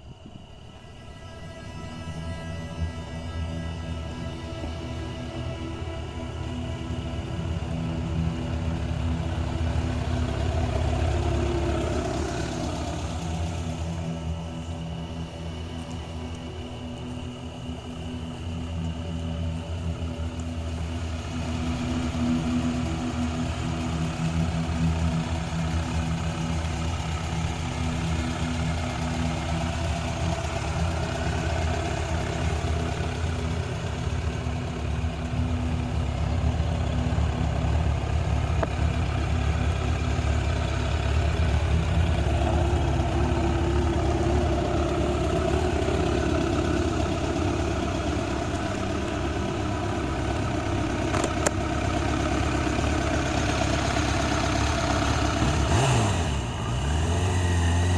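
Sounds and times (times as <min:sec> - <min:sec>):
motorcycle engine idling: 0:03.8 - 0:57.9.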